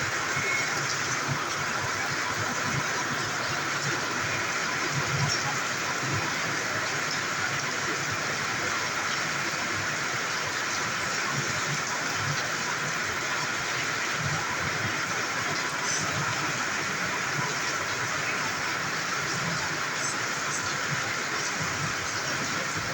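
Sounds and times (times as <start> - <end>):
light rain falling: 0.0 - 22.9.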